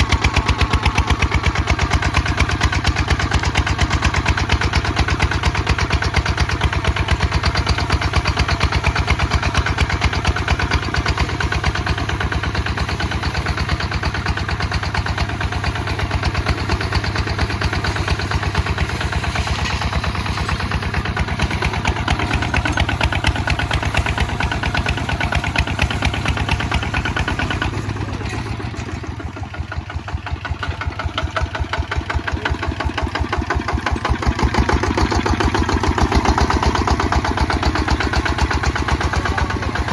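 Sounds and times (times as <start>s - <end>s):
diesel tractor engine chugging: 0.0s - 39.9s.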